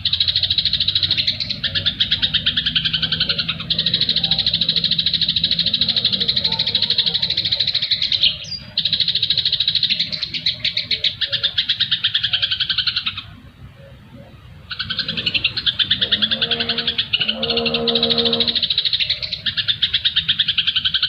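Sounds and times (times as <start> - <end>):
songbird chattering: 0.0 - 21.0.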